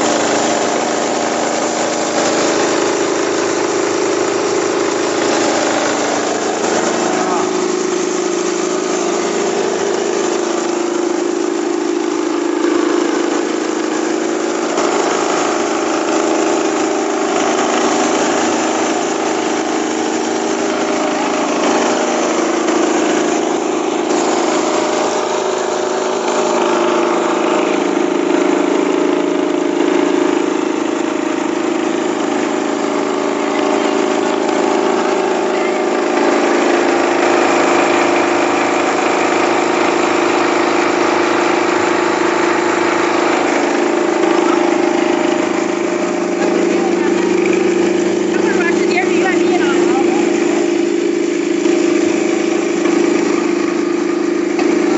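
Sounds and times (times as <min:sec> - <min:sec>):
rice husker machine humming: 0:00.0 - 0:54.9.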